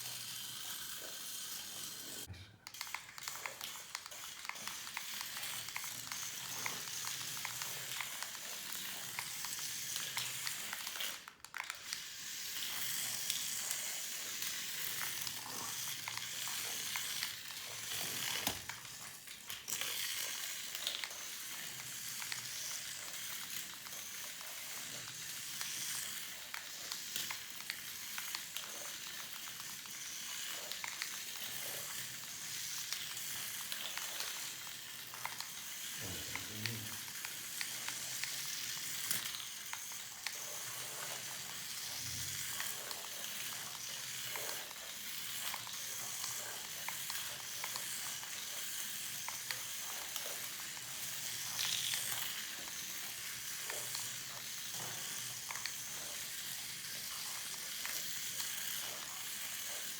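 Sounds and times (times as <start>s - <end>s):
toy car motor and gears: 0.0s - 59.9s.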